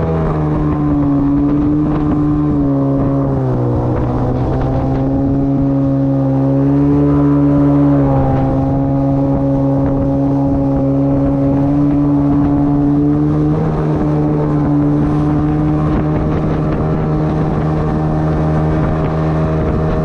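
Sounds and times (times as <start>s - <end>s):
outboard motor running: 0.0s - 20.0s
water rushing past hull: 0.0s - 20.0s.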